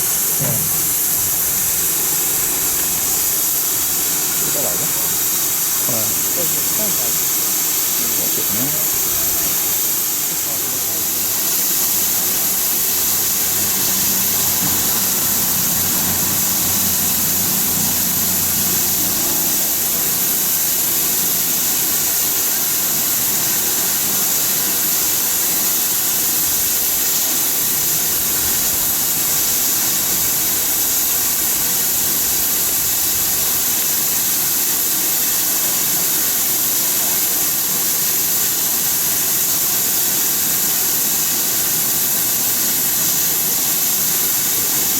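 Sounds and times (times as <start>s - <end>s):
steam locomotive hissing: 0.0s - 44.9s.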